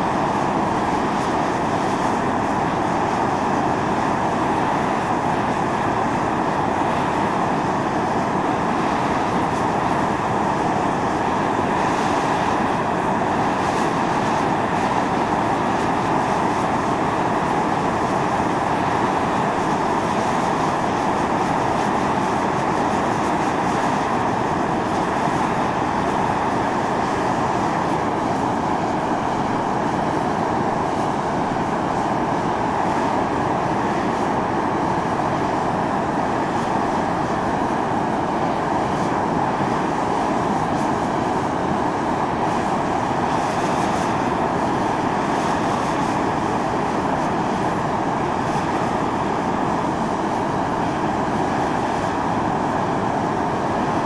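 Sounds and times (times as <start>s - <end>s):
steam hissing from a vent: 0.0s - 54.0s.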